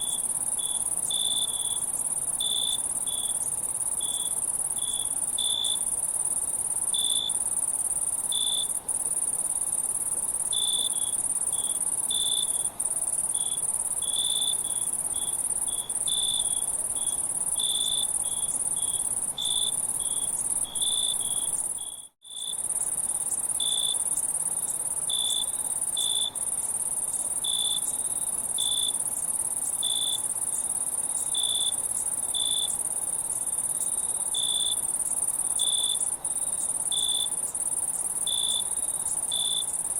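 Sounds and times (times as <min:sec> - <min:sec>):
insects trilling: 0:00.0 - 0:39.9
low-pitched insect chirps: 0:00.0 - 0:39.9.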